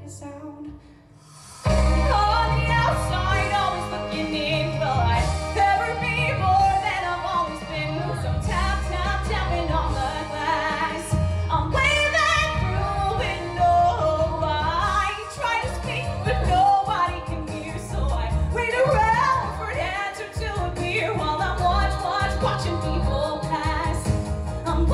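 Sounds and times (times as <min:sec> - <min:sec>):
instrumental backing music: 0:00.0 - 0:24.9
woman singing into a microphone: 0:01.7 - 0:24.9.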